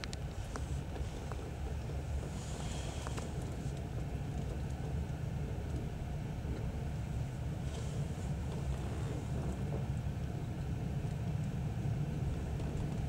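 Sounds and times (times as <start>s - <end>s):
train wheels rumbling: 0.2s - 13.0s.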